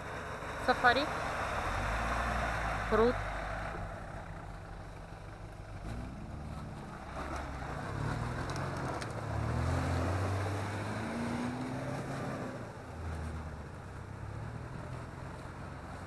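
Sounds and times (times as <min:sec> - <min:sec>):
off-road vehicle engine: 0:00.0 - 0:16.0.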